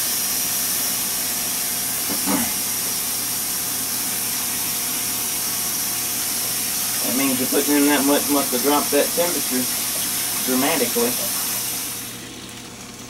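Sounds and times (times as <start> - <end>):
pressure cooker hissing: 0.0 - 13.0.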